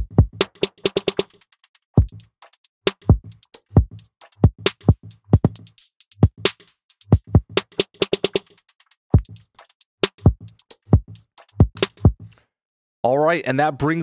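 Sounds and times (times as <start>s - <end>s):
drum machine beat: 0.0s - 12.3s.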